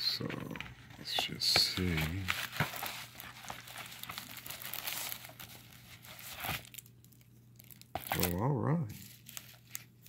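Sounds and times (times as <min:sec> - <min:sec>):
cardboard crinkling and tearing: 0:00.2 - 0:10.0.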